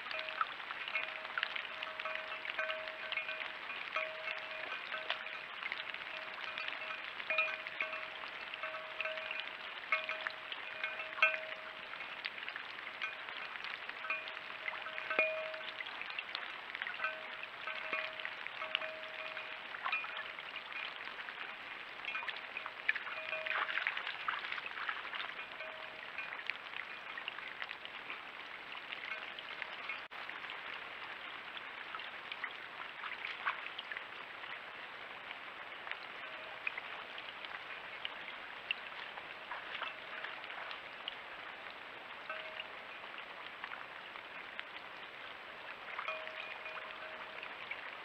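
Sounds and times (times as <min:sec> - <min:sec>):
light rain pattering on leaves: 0:00.0 - 0:48.0.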